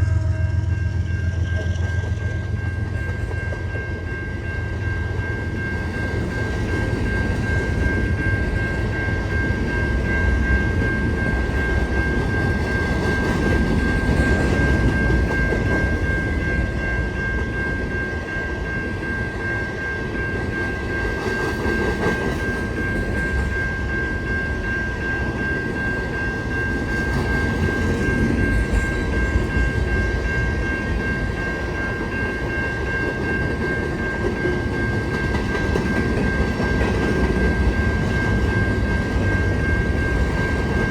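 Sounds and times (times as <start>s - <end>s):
high-pitched ringing tone: 0.0s - 40.9s
train wheels rumbling on rail: 0.0s - 40.9s.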